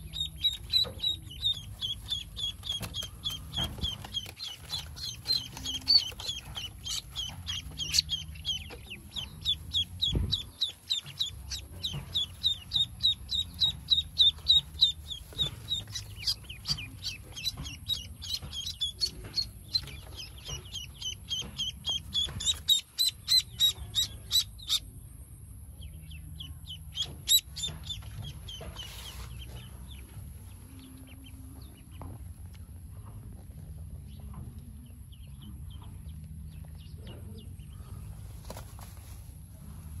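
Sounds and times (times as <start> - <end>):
ducklings peeping: 0.0 - 40.0.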